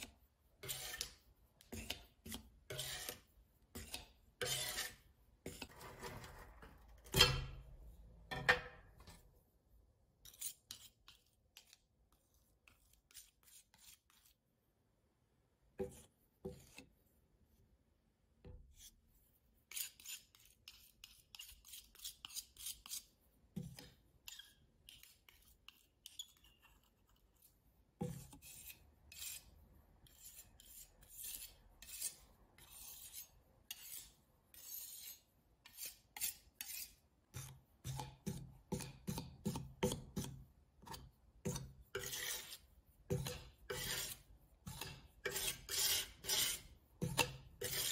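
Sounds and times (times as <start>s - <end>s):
palette knife scraping paste on glass: 0.0s - 7.7s, 10.2s - 14.5s, 15.8s - 17.0s, 19.6s - 47.9s.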